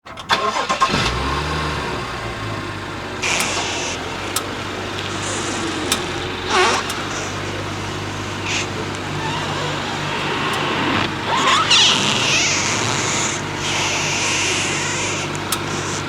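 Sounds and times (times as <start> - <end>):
car engine idling: 0.0 - 16.0
scraping bursts: 0.3 - 16.0.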